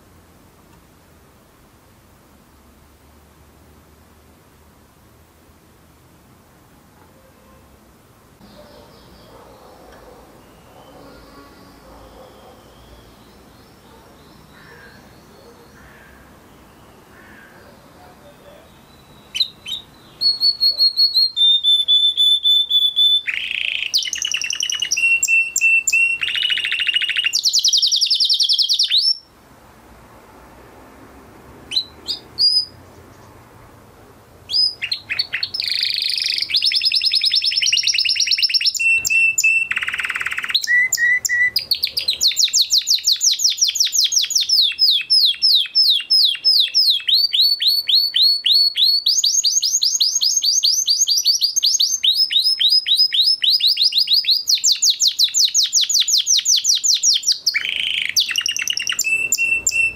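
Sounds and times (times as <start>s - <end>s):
canary singing trills: 8.4s - 29.3s, 31.7s - 33.4s, 34.5s - 59.9s.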